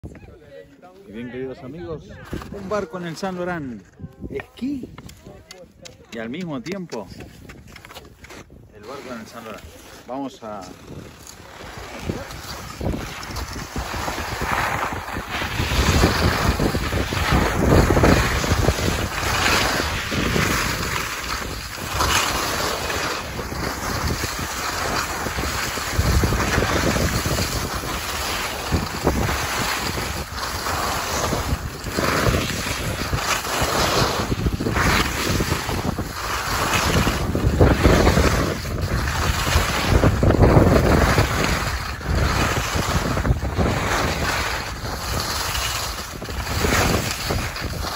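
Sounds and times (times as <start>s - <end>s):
wind rushing over microphone: 0.0s - 47.9s
skis scraping on packed snow: 0.8s - 47.9s.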